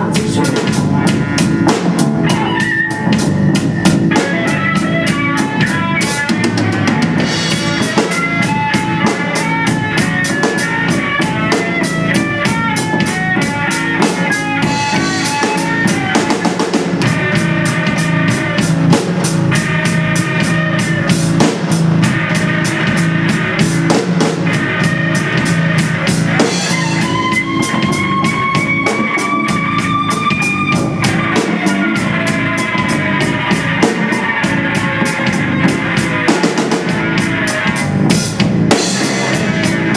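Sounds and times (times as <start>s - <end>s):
drum kit playing: 0.0s - 39.9s
lead instrument melody: 1.0s - 39.9s.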